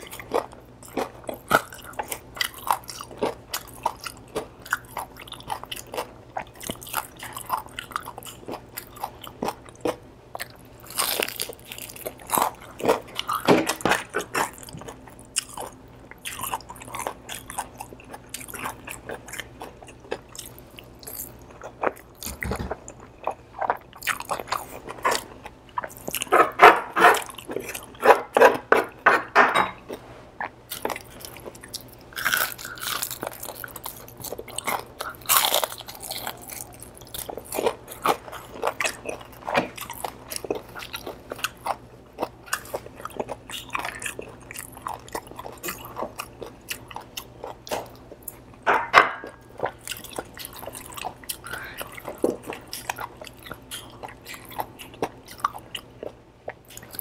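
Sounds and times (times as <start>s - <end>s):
chewing crispy food: 0.0s - 57.0s.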